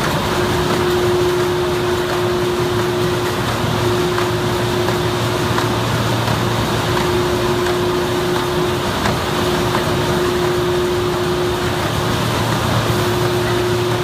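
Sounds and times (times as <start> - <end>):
factory machinery din: 0.0 - 14.0
mid-pitched machine whine: 0.0 - 14.0.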